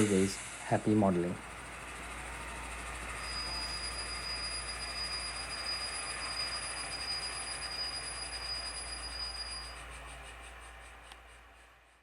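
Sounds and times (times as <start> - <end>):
high-pitched whine: 0.0 - 12.0
model locomotive rumbling: 0.0 - 12.0.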